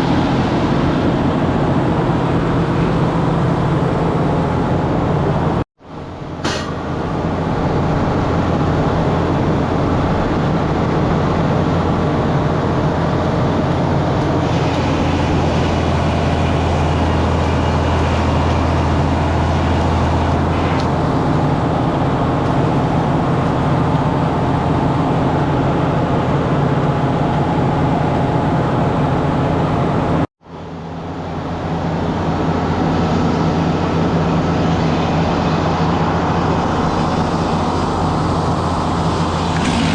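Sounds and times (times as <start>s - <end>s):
sawmill machine hum: 0.0s - 39.9s.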